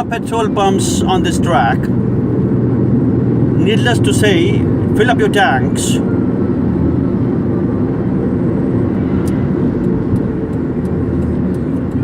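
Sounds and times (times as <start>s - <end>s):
car driving at highway speed: 0.0s - 12.0s.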